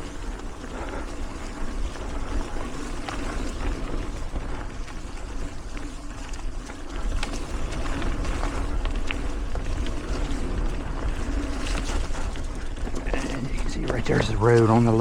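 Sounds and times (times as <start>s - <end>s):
tyres rolling on dirt trail: 0.0s - 15.0s
wind buffeting microphone: 0.0s - 15.0s.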